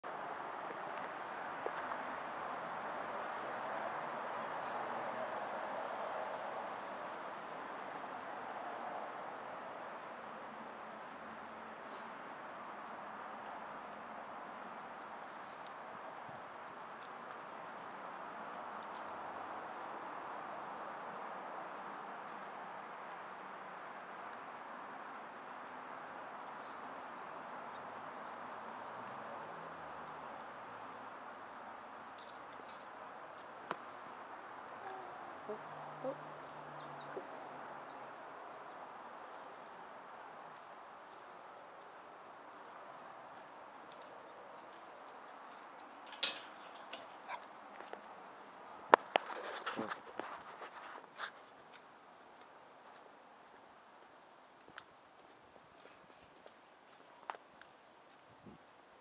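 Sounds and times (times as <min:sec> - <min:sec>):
outdoor background noise: 0:00.0 - 0:59.0.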